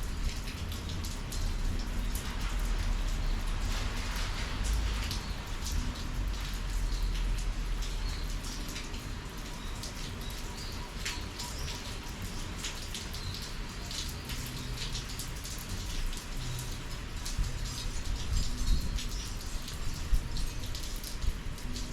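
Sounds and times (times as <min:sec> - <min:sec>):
rain hiss: 0:00.0 - 0:21.9
raindrops ticking on a surface: 0:00.0 - 0:21.9.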